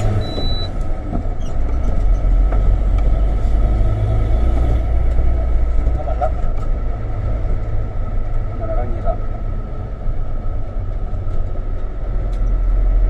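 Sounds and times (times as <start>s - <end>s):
truck diesel engine driving: 0.0s - 13.0s.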